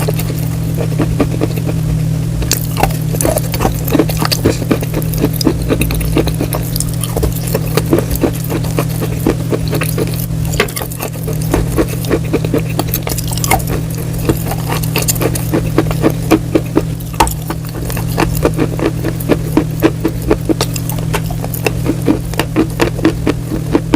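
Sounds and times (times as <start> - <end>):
low steady hum: 0.0 - 23.9
person chewing crisp food: 0.0 - 23.9.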